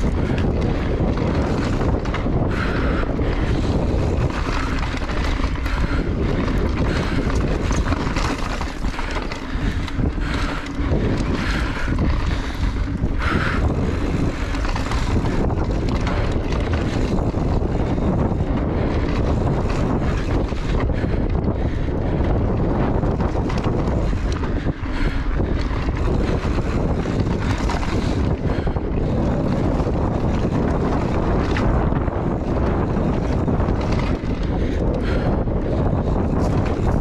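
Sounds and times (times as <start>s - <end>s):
bike ride rumble: 0.0s - 37.0s
wind rushing over microphone: 0.0s - 37.0s.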